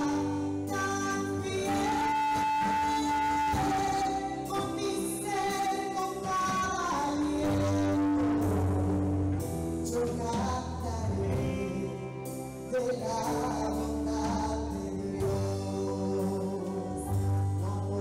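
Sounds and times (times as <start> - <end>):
band playing praise song: 0.0 - 18.0
person singing: 0.0 - 18.0
sustained bass notes: 0.0 - 18.0.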